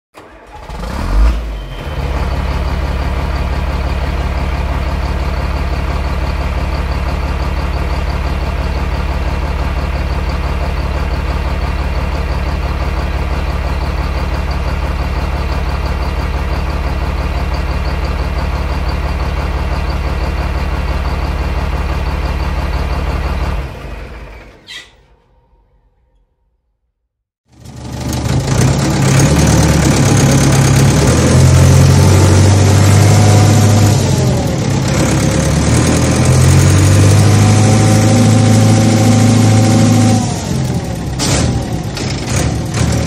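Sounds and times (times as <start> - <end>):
engine humming: 0.2 - 26.2, 27.6 - 43.0.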